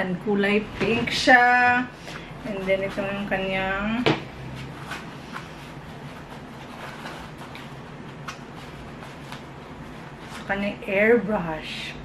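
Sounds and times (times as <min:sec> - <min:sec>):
low steady hum: 0:00.0 - 0:12.0
soft rustles: 0:00.7 - 0:03.9, 0:04.5 - 0:11.1.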